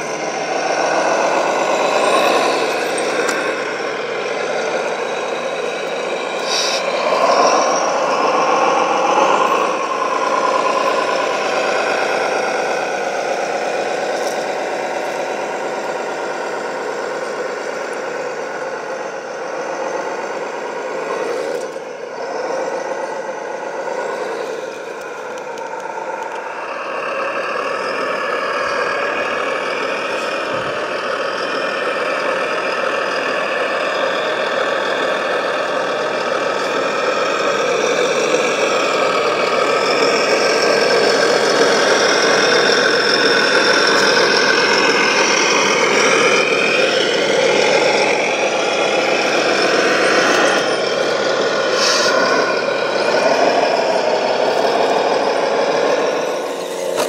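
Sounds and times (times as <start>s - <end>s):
electric gear motors whining: 0.0s - 57.0s
hydraulic pump running: 0.0s - 57.0s.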